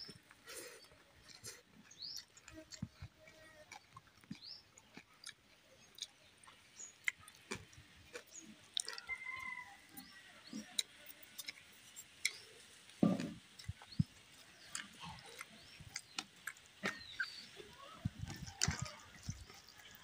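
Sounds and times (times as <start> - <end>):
man chewing with mouth clicks: 0.0 - 20.0.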